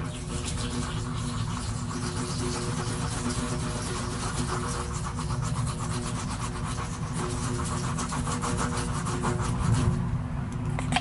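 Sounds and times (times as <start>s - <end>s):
hand scraper rasping on rubber: 0.0s - 10.1s.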